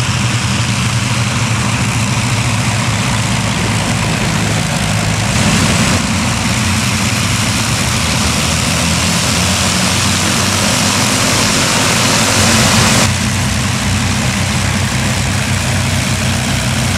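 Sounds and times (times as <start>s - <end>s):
piston aircraft engines rumbling: 0.0s - 16.9s
propeller and exhaust hiss: 0.0s - 16.9s.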